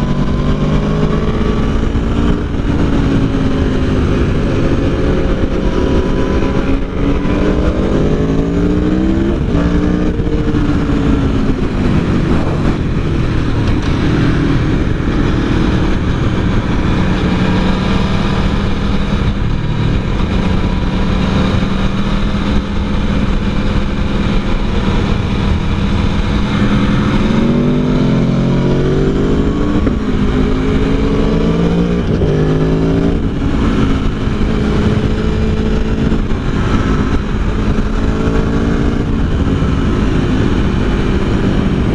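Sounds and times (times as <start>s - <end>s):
motorcycle engine changing gears: 0.0s - 41.9s
wind and road noise: 0.0s - 41.9s.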